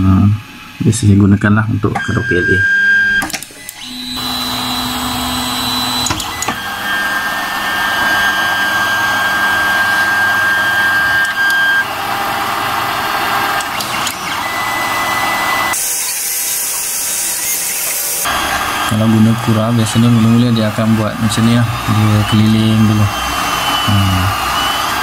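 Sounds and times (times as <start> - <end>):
cooling fans rushing: 0.0 - 2.5, 3.4 - 25.0
stepper motors whining: 0.0 - 25.0.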